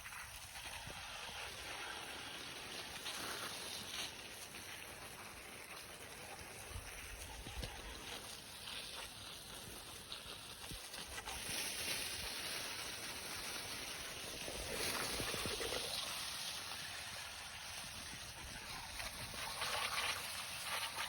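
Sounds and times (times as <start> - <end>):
water spraying on bone: 0.0 - 21.0.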